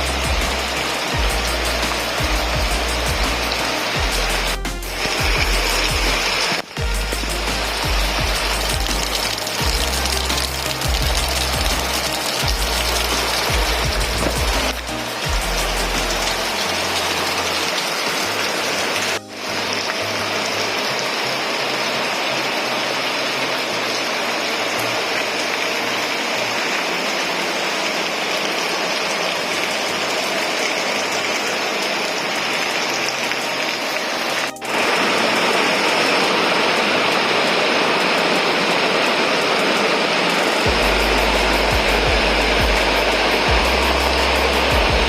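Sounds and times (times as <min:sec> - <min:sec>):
steady rain pattering: 0:00.0 - 0:45.0.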